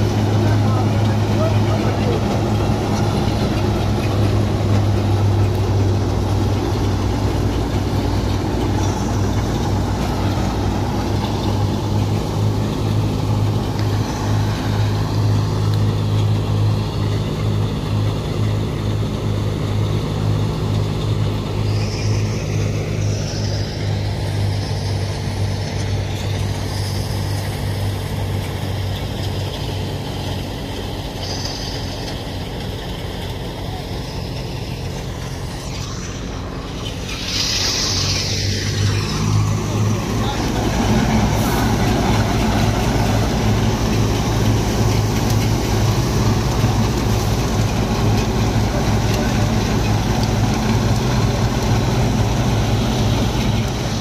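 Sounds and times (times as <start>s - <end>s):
thresher whirring: 0.0s - 54.0s
tractor engine drone: 0.0s - 54.0s.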